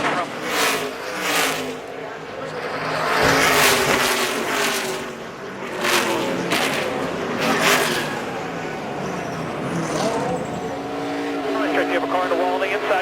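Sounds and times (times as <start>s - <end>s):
cars passing by: 0.0s - 13.0s
race car engines droning: 0.0s - 13.0s.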